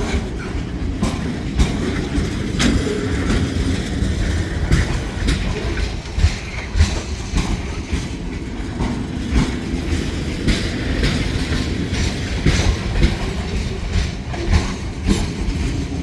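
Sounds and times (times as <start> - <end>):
low rumble of train cars: 0.0 - 16.0
train wheels clattering over crossing: 0.0 - 16.0.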